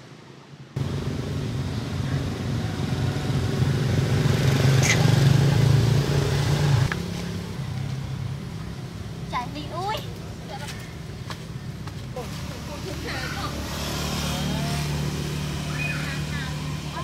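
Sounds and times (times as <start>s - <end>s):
vehicle engine running: 0.8s - 8.9s, 11.3s - 17.0s.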